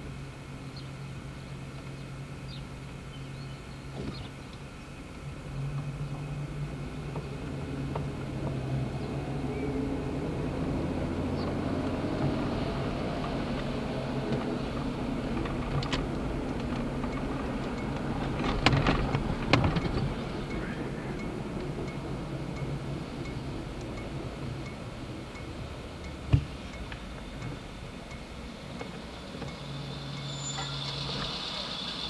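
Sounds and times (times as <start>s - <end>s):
vehicle low hum: 0.0s - 32.0s.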